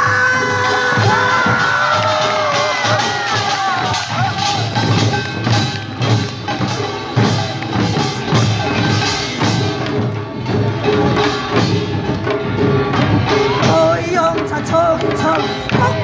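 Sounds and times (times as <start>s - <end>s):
drums beating steadily: 0.0s - 16.0s.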